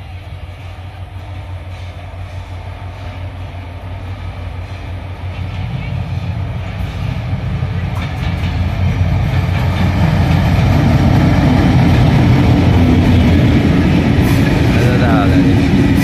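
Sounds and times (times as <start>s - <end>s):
diesel locomotive engine rumble: 0.0s - 16.0s
train coaches running past: 0.0s - 16.0s.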